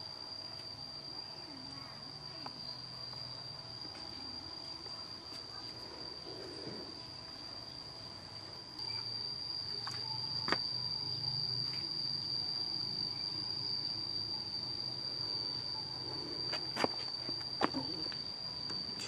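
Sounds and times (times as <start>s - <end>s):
insect high-pitched trill: 0.0s - 19.0s.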